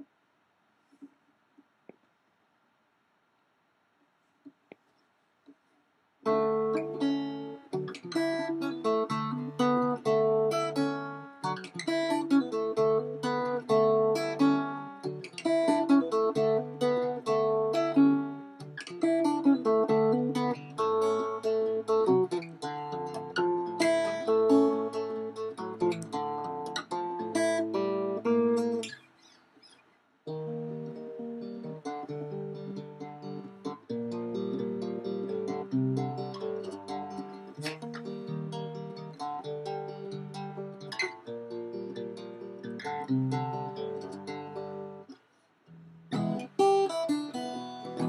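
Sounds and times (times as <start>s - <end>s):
acoustic guitar playing: 6.2s - 48.0s.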